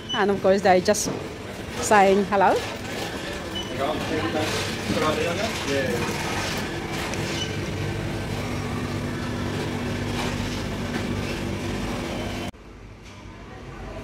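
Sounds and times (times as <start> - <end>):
mechanical hum in shop: 0.0 - 14.0.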